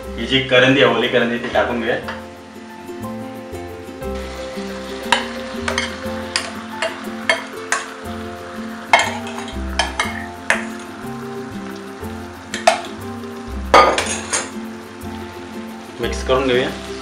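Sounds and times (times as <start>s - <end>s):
prawns sizzling in a pan: 0.0s - 17.0s.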